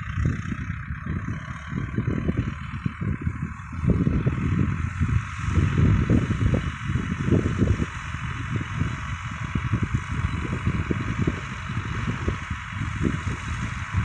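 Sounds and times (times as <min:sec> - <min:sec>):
distant tractor and mower hiss: 0:00.0 - 0:14.0
wind buffeting microphone: 0:00.0 - 0:14.0.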